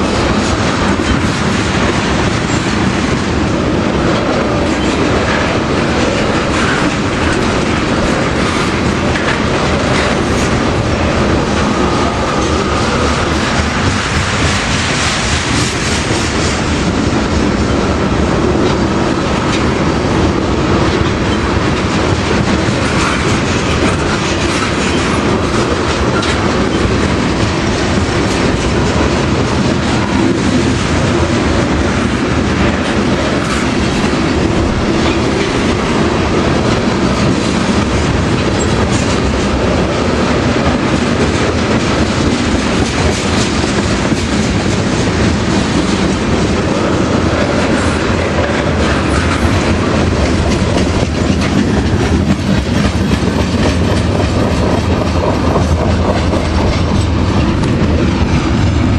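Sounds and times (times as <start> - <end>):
freight train rumbling past: 0.0 - 58.9
wheels clickety-clack on rails: 0.0 - 58.9.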